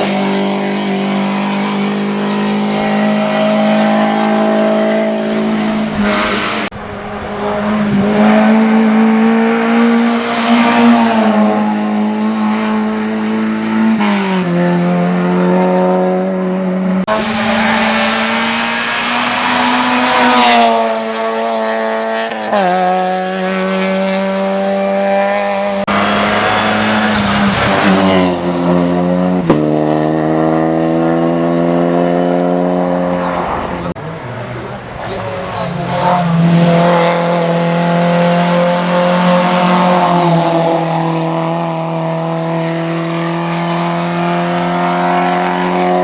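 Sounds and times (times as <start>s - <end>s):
race car engine at high revs: 0.0s - 46.0s.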